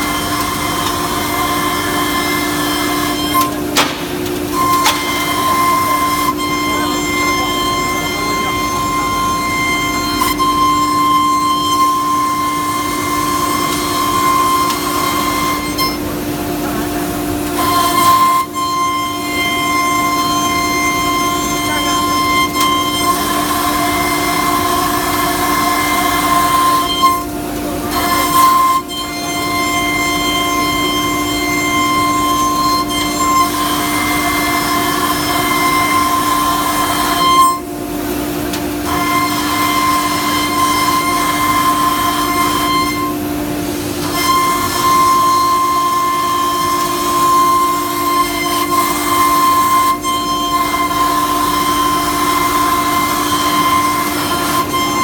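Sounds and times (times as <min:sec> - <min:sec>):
cnc router spindle whine: 0:00.0 - 0:55.0.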